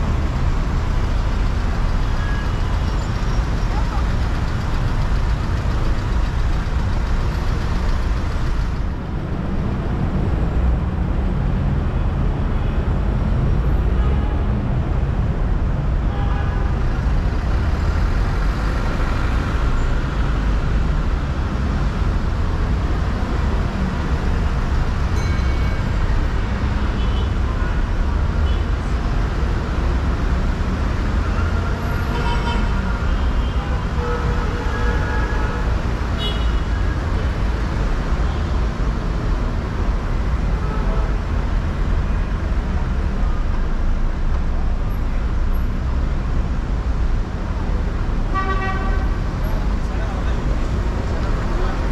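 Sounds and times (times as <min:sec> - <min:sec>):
traffic rumble: 0:00.0 - 0:51.9.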